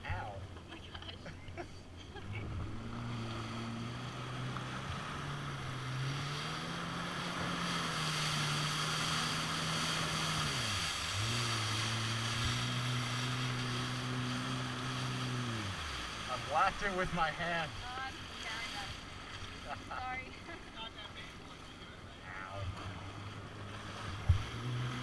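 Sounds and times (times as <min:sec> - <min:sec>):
jet ski engine revving: 0:00.0 - 0:25.0.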